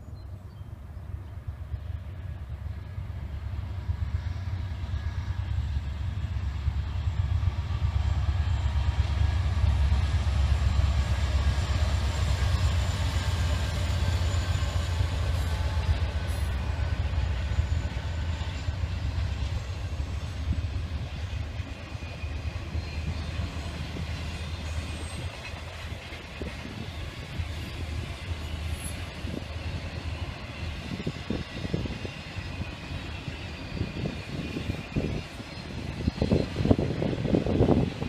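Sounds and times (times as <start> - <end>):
diesel locomotive engine rumble: 0.0 - 38.0
train rolling by: 0.0 - 38.0.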